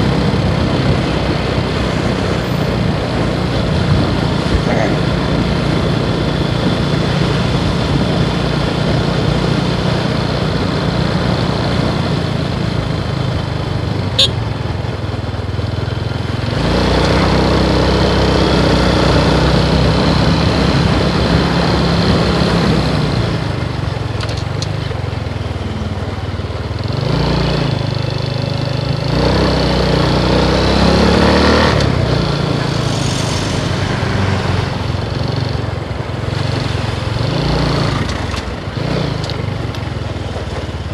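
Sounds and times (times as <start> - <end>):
motorcycle engine revving: 0.0 - 14.8, 15.5 - 40.9.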